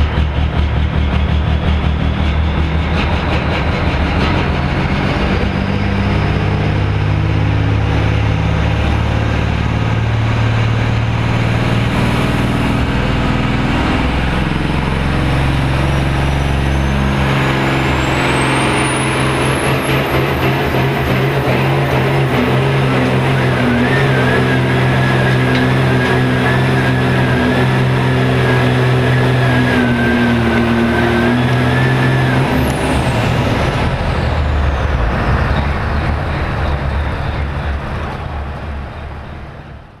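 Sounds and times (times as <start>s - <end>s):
diesel tractor engine under load: 0.0s - 40.0s.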